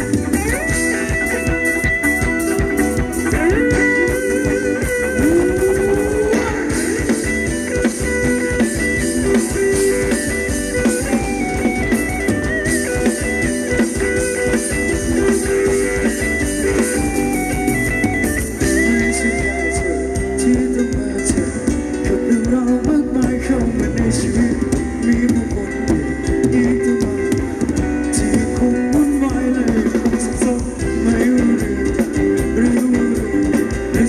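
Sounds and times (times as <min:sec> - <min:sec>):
live instrumental band music: 0:00.0 - 0:34.0.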